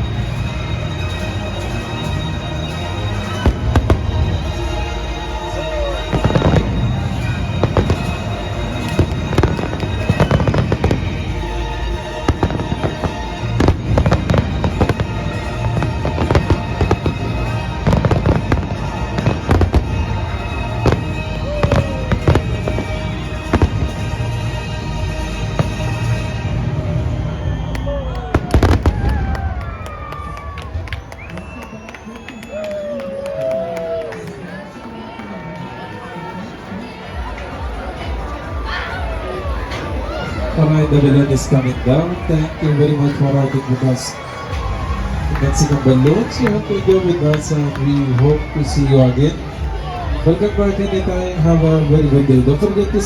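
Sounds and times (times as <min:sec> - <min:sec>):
fireworks bangs and crackling: 0:00.0 - 0:31.6, 0:37.4 - 0:53.0.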